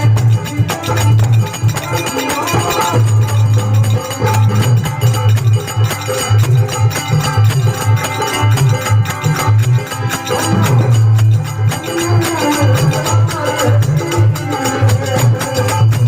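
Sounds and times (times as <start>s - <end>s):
folk devotional melody: 0.0s - 16.0s
hand drum steady rhythm: 0.0s - 16.0s.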